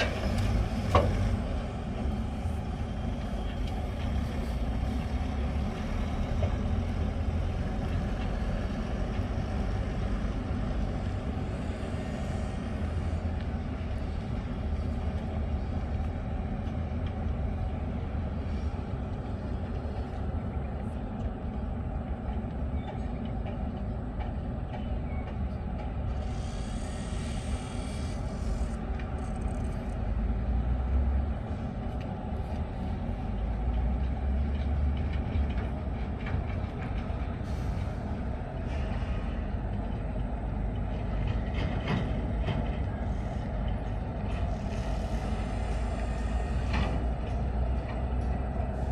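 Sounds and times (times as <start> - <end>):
diesel trucks rumbling: 0.0 - 48.9.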